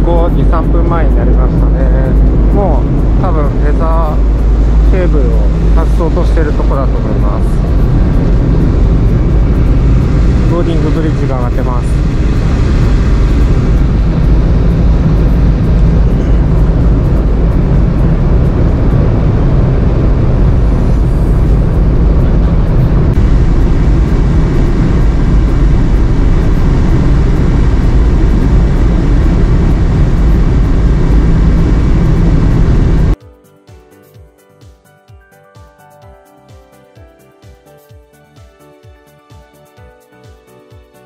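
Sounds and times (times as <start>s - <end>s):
propeller wash: 0.0s - 33.2s
ship engines rumbling: 0.0s - 33.2s.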